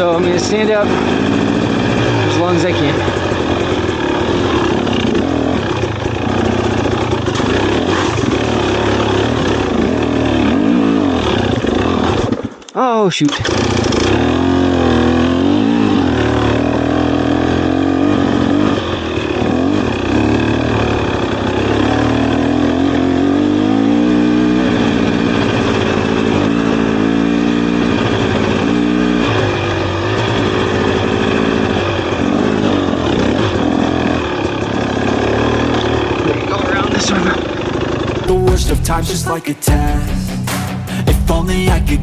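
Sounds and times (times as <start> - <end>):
dirt bike engine revving: 0.0 - 12.7, 13.3 - 42.0.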